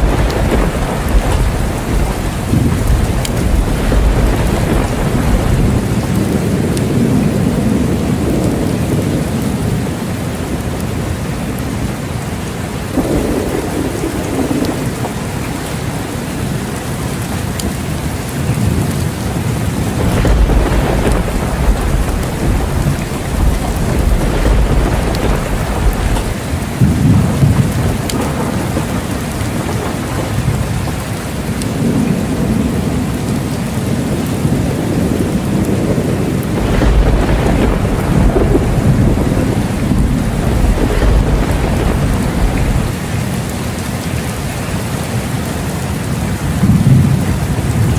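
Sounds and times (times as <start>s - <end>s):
low rolling thunder: 0.0s - 10.8s, 12.9s - 43.0s, 45.7s - 47.9s
steady rain falling: 0.0s - 47.9s.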